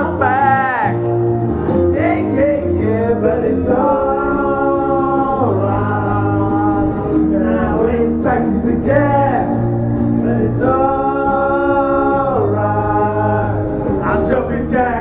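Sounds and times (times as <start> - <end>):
backing track music: 0.0 - 15.0
men singing karaoke: 0.0 - 15.0.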